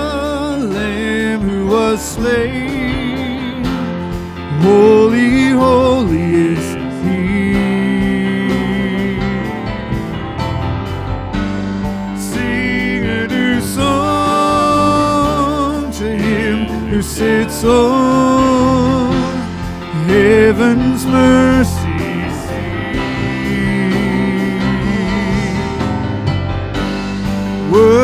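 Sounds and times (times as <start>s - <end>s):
singers holding long notes: 0.0s - 10.1s, 12.2s - 26.2s
acoustic guitar: 0.0s - 28.0s
keyboard: 0.0s - 28.0s.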